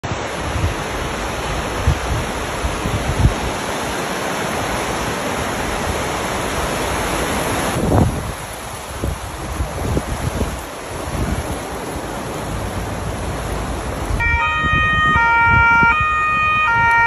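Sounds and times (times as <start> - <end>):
river rushing over a weir: 0.0 - 17.0.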